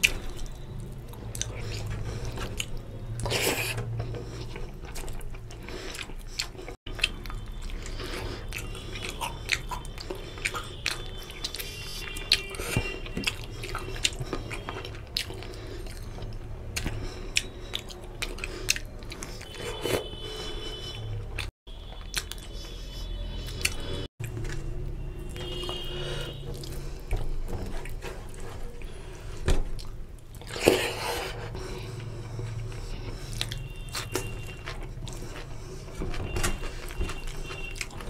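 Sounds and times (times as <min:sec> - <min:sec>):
wet chewing and mouth smacks: 0:00.0 - 0:25.8, 0:26.4 - 0:38.0.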